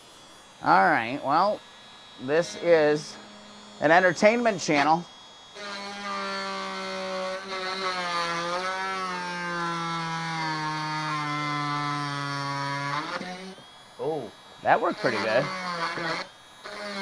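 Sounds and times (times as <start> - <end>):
power drill running: 0.0 - 17.0.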